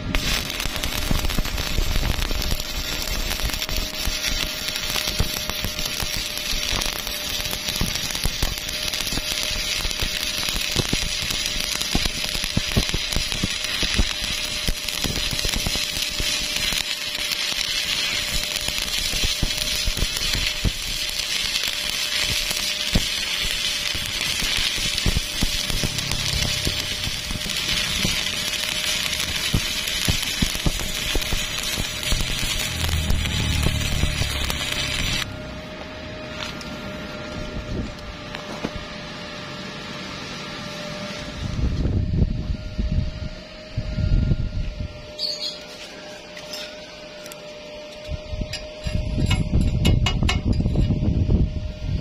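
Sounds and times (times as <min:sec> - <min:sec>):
welding arc crackling and sputtering: 0:00.0 - 0:40.4, 0:44.9 - 0:52.0.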